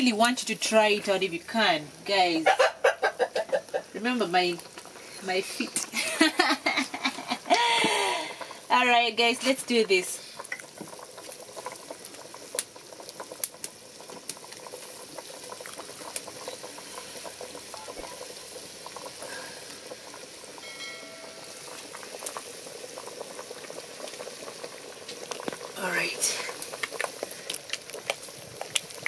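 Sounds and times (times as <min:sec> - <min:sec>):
soup bubbling in a pot: 0:00.0 - 0:29.0.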